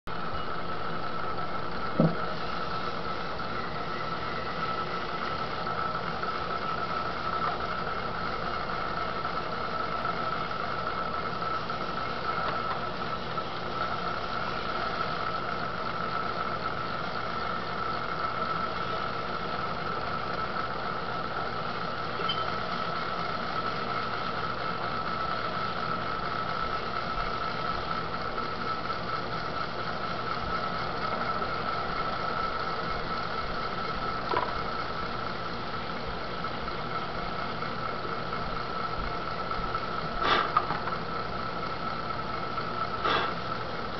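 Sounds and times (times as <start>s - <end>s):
potter's wheel motor hum and whine: 0.1s - 43.9s.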